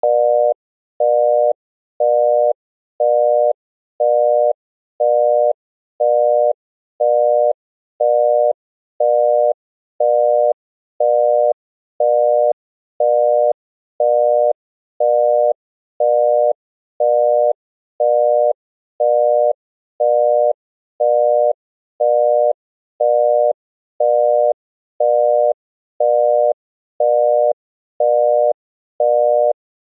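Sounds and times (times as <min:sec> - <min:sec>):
buzzy telephone busy tone: 0:00.0 - 0:29.6.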